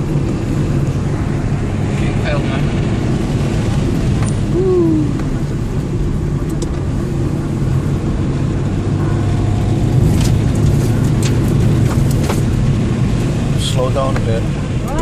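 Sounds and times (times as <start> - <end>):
car engine and tyres drone: 0.0 - 15.0.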